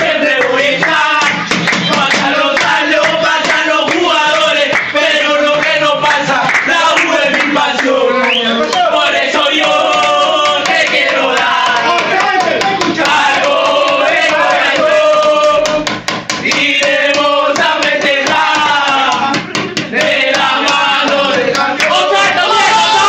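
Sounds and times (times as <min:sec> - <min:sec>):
men singing a chant: 0:00.0 - 0:23.0.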